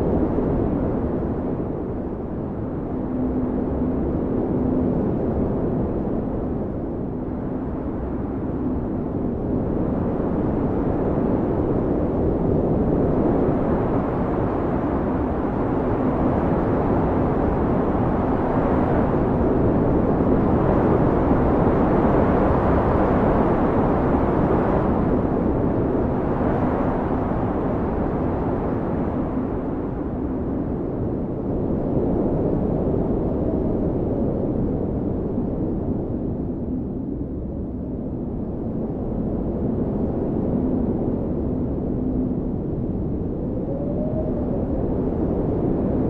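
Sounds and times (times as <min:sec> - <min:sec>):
blizzard wind howling: 0:00.0 - 0:46.0.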